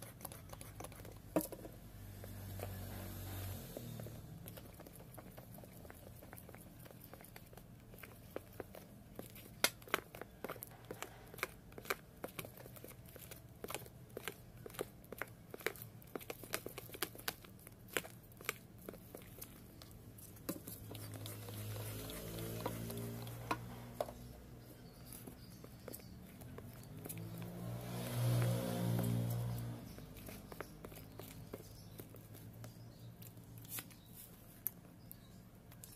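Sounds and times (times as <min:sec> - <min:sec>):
spoon stirring slime: 0:00.0 - 0:35.9.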